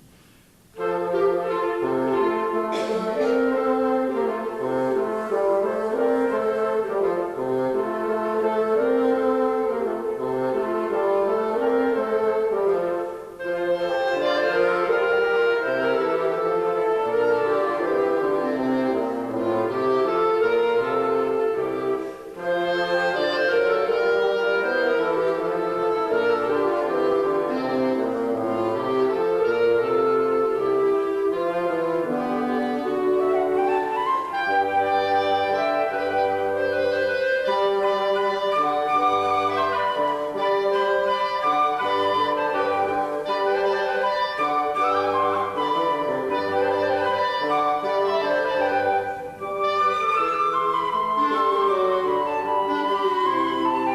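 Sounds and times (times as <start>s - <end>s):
brass and woodwind ensemble playing: 0.6s - 53.9s.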